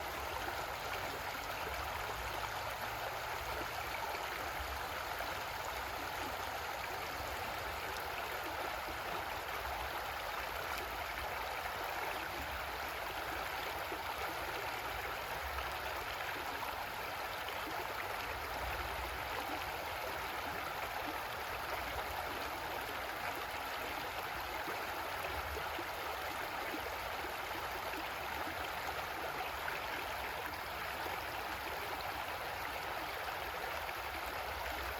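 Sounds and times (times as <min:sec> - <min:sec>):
creek water gurgling over rocks: 0:00.0 - 0:34.9.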